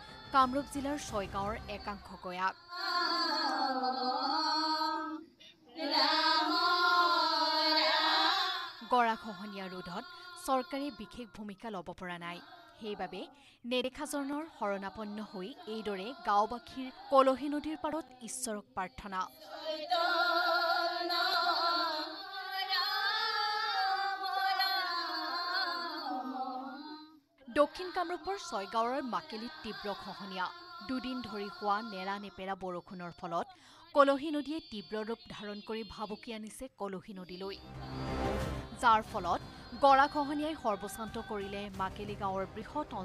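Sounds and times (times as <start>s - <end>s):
women singing in unison: 0.0s - 13.4s, 14.0s - 36.2s, 37.2s - 43.0s.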